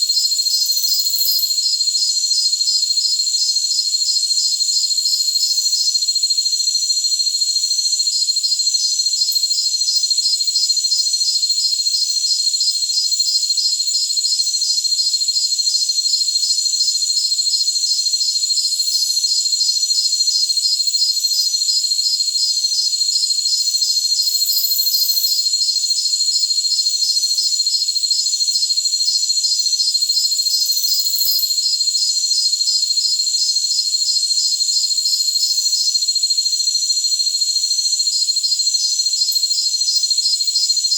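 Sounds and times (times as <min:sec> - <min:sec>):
cricket pulsing chirp: 0:00.0 - 0:40.9
crickets trilling: 0:00.0 - 0:40.9.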